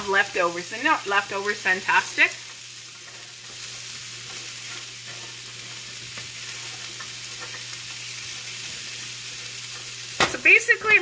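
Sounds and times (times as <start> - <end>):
food sizzling in a pan: 0.0 - 11.0
spatula scraping a pan: 1.8 - 10.6.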